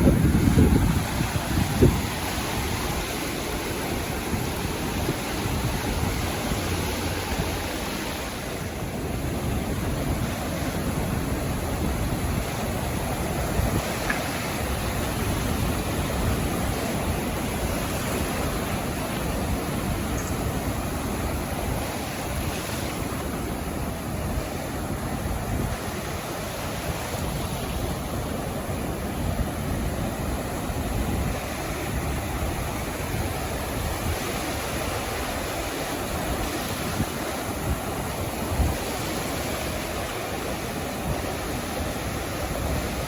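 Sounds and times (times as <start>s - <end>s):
surf washing onto beach: 0.0s - 43.0s
wind rumble on microphone: 0.0s - 43.0s.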